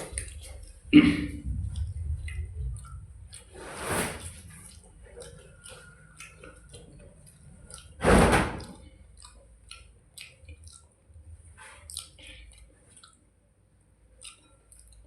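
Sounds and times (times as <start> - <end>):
small mouth clicks: 0.0 - 8.0, 8.6 - 13.4, 14.1 - 15.0
wet squishing and chewing: 0.0 - 8.0, 8.6 - 15.0
loud noisy eating sounds: 0.0 - 13.4, 14.1 - 15.0.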